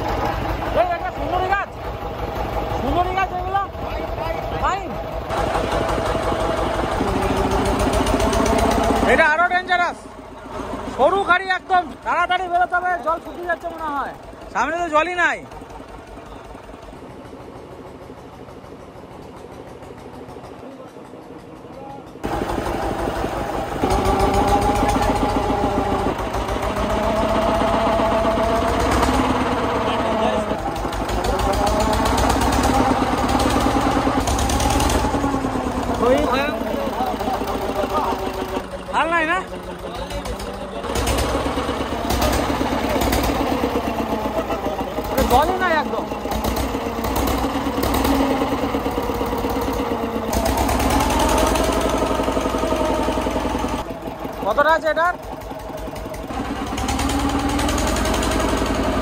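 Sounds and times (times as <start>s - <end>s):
boat engine throbbing: 0.0s - 59.0s.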